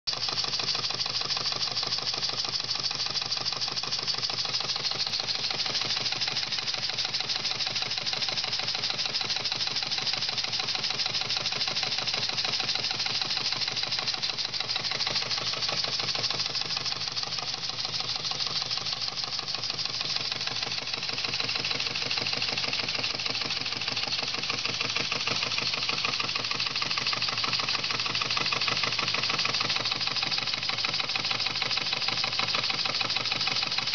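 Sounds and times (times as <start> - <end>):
model steam engine running fast: 0.1 - 33.9.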